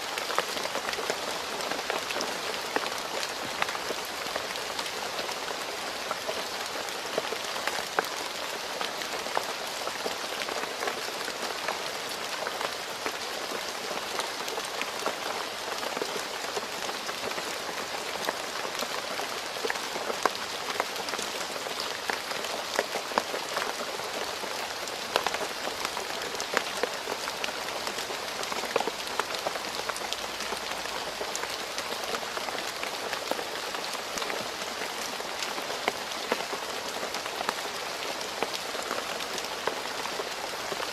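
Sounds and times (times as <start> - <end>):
rain falling on road: 0.0 - 40.9.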